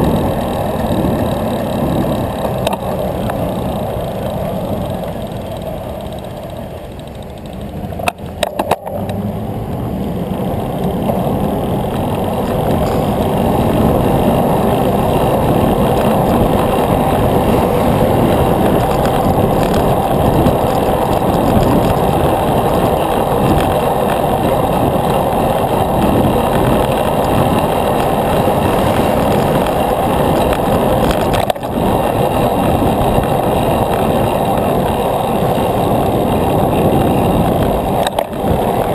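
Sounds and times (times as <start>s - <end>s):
bicycle tyre rumble: 0.0s - 38.9s
wind buffeting microphone: 0.0s - 38.9s.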